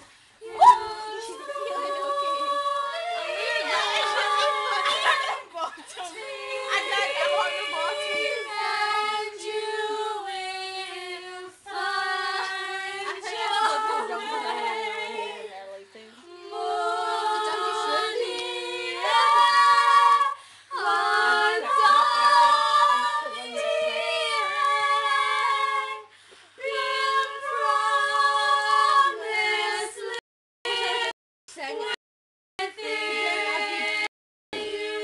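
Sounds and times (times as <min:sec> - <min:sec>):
girls singing unaccompanied: 0:00.4 - 0:31.2, 0:32.6 - 0:35.0.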